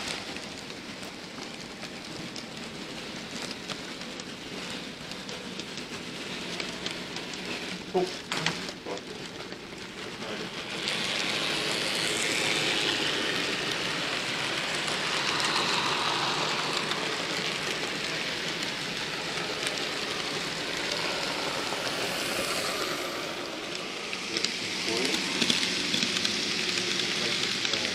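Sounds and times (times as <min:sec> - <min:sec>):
model train rolling on rails: 0:00.0 - 0:27.9.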